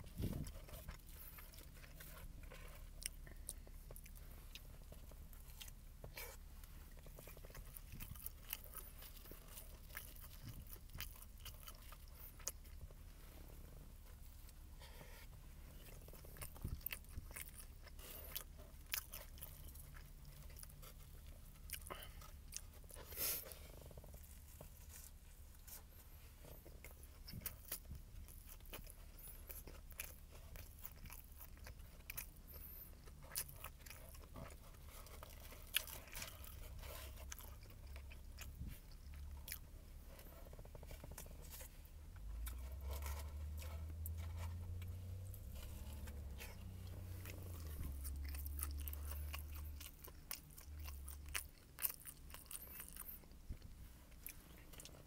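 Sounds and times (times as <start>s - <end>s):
crunchy biting and chewing: 0.0s - 55.0s
low steady hum: 0.0s - 55.0s.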